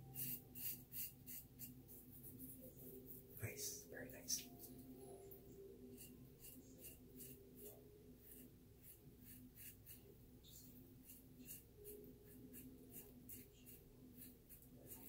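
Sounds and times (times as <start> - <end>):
razor scraping stubble: 0.0 - 3.2, 5.9 - 15.0.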